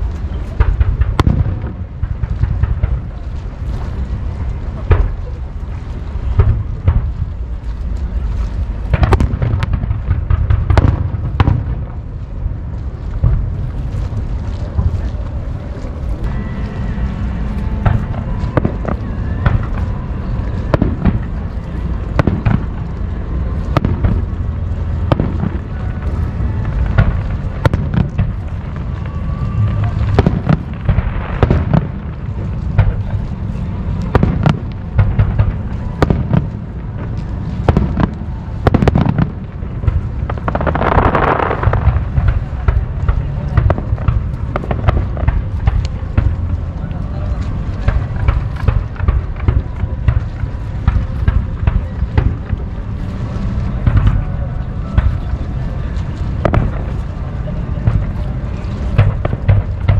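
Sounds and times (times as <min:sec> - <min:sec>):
fireworks bursting with sharp bangs: 0:00.0 - 0:59.9
low rumble of booms: 0:00.0 - 0:59.9.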